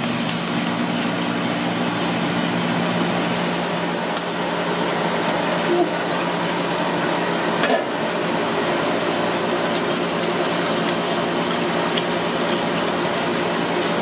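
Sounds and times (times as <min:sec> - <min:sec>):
liquid pouring into water: 0:00.0 - 0:14.0
water at rolling boil: 0:00.0 - 0:14.0.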